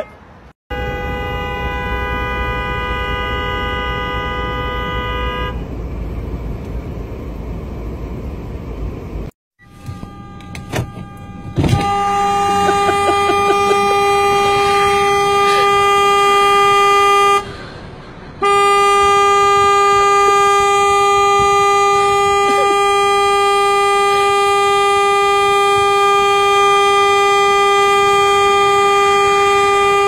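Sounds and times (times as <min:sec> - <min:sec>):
car horn blaring: 0:00.0 - 0:05.7, 0:09.6 - 0:17.6, 0:18.4 - 0:30.0.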